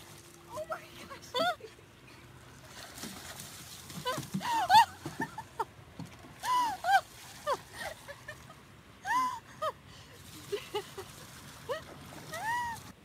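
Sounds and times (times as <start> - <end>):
water splashing: 0.0 - 1.5, 2.3 - 8.6, 10.1 - 13.0.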